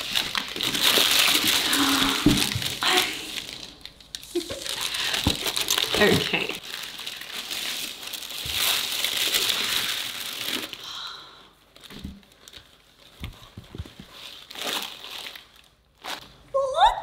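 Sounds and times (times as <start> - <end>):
tissue paper rustling: 0.0 - 10.8, 11.8 - 16.3.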